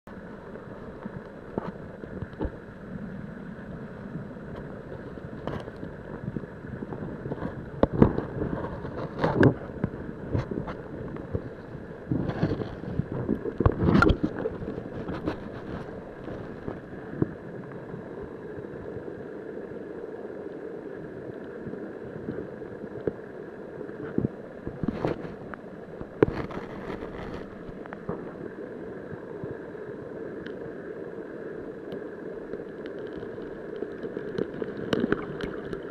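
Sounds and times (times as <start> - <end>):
river current rushing underwater: 0.1 - 35.9.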